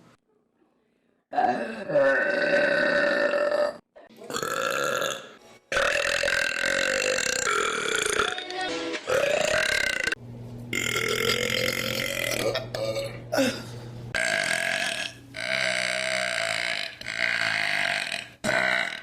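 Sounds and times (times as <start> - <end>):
person burping: 1.3 - 8.4, 9.1 - 10.2, 10.8 - 19.0.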